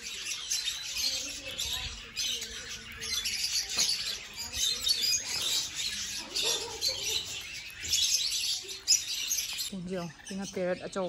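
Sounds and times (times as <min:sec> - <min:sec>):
lovebirds chattering and squawking: 0:00.0 - 0:11.0.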